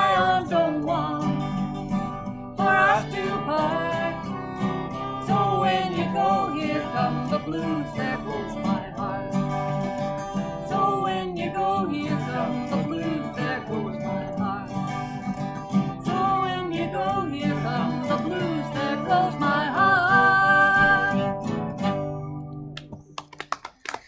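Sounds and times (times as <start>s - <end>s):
acoustic guitar strummed: 0.0s - 23.1s.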